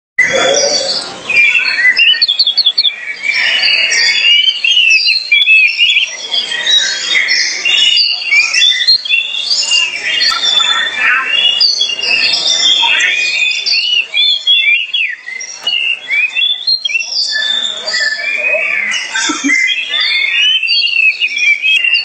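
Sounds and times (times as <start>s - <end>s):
bird singing whistles and chirps: 0.2s - 22.0s.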